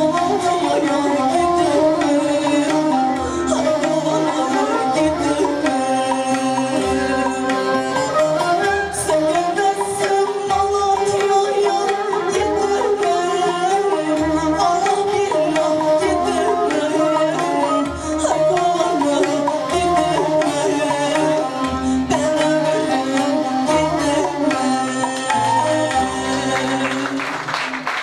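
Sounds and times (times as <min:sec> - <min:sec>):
woman singing: 0:00.0 - 0:27.8
plucked string melody: 0:00.0 - 0:28.0.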